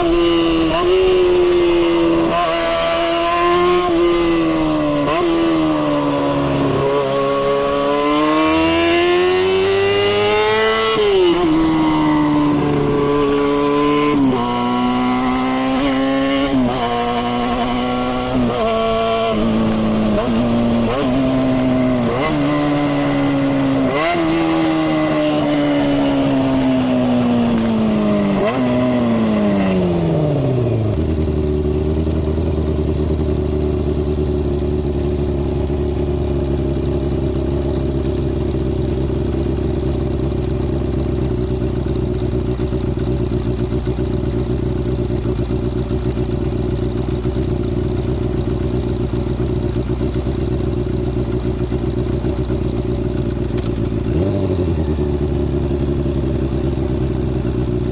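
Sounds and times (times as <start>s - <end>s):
motorcycle engine revving and idling: 0.0s - 57.9s.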